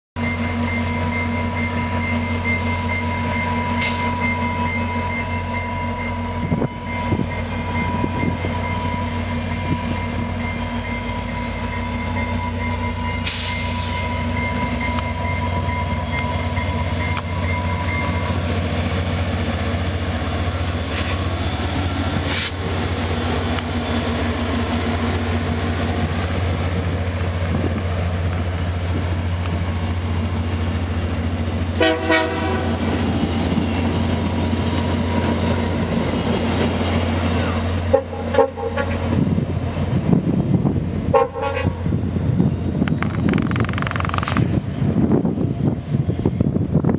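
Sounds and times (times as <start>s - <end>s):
diesel locomotive engine throbbing: 0.2s - 46.9s.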